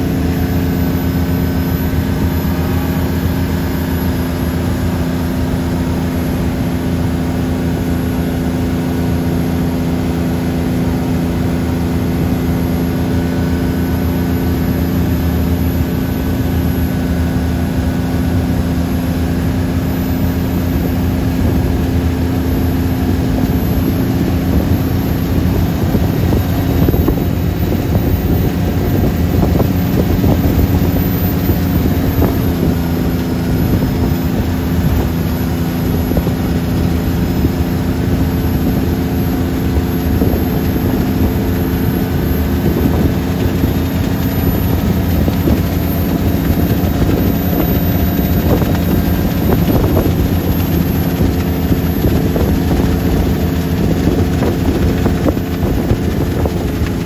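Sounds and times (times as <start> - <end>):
boat engine running: 0.0 - 57.0
water rushing in wake: 0.0 - 57.0.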